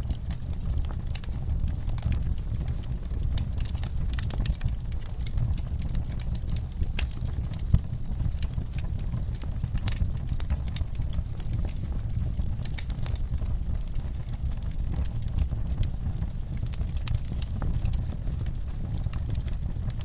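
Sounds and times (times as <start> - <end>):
low fire rumble: 0.0 - 20.0
wood fire crackling: 0.0 - 20.0.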